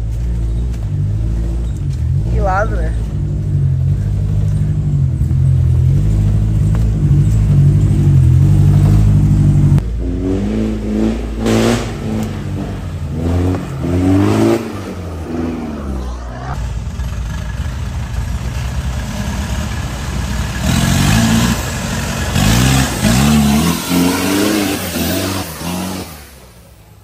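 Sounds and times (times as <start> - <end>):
engine running and revving: 0.0 - 27.0.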